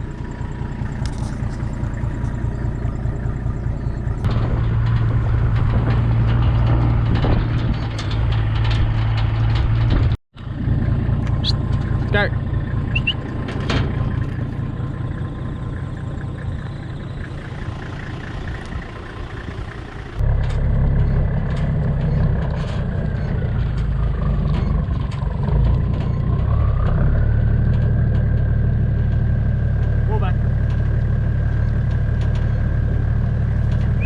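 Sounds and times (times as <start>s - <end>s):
knocks and rattles: 0.0s - 34.0s
vehicle engine running: 0.0s - 34.0s.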